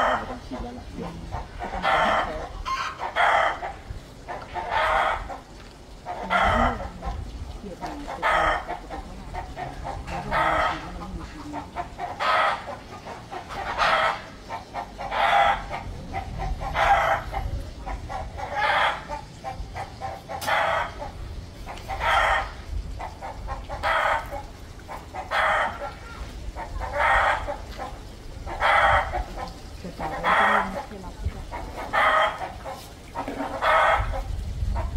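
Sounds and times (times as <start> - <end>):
fowl calling: 0.0 - 7.2, 8.0 - 34.9.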